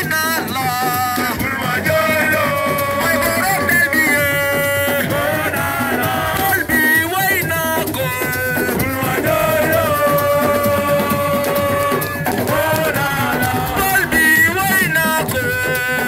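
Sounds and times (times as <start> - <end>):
drums and instruments: 0.0 - 16.0
person singing: 0.0 - 16.0.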